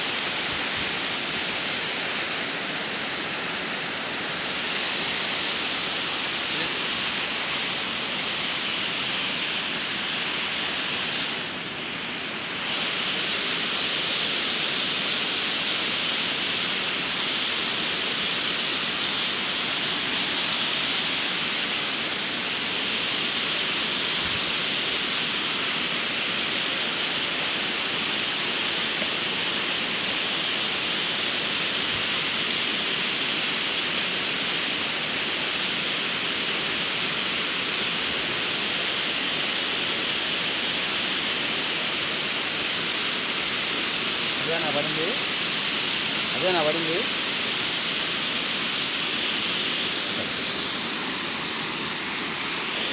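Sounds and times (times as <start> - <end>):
stream water rushing over rocks: 0.0 - 52.9.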